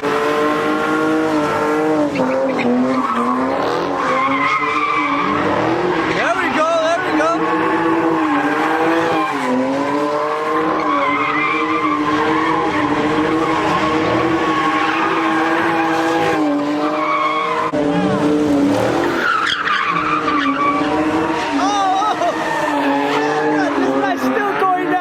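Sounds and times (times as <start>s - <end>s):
car engine at high revs: 0.0s - 25.0s
tyres squealing: 2.1s - 25.0s.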